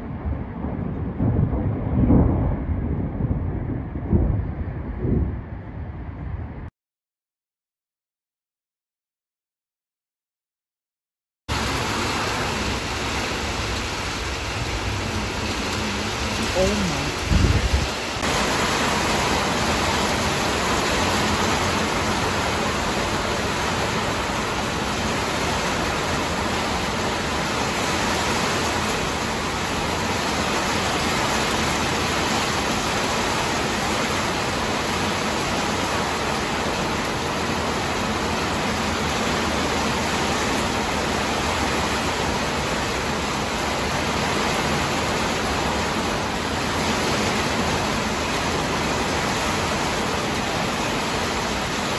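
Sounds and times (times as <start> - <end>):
rain falling: 0.0 - 6.7, 11.5 - 51.9
wind: 0.0 - 6.7, 11.5 - 51.9.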